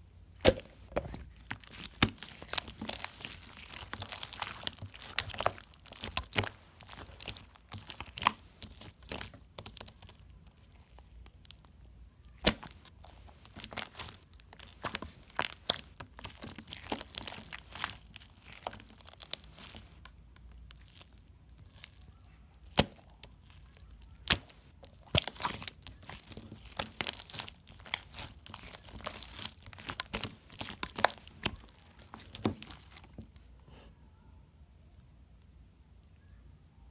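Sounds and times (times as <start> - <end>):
slime squished by hand: 0.3 - 33.5
sticky clicks and crackles: 0.4 - 11.7, 12.3 - 33.2.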